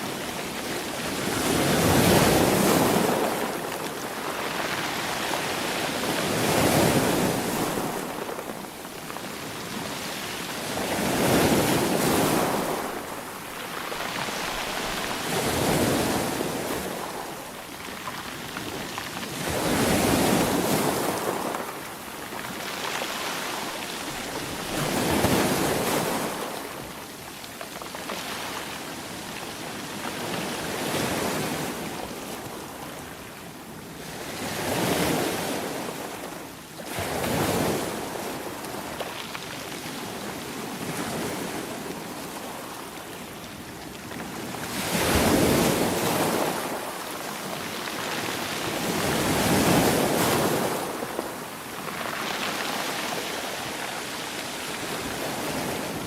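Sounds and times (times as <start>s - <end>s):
ocean waves breaking on shore: 0.0s - 56.0s
surf hiss: 0.0s - 56.0s.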